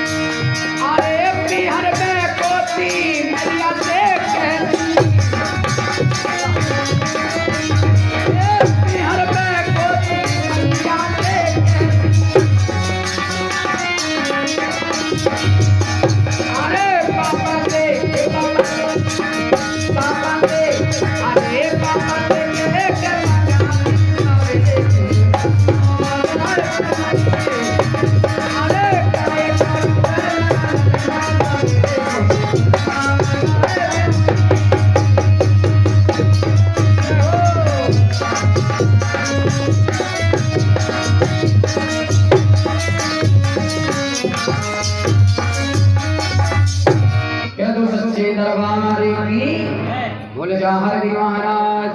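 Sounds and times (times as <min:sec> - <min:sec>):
hand drums: 0:00.0 - 0:47.4.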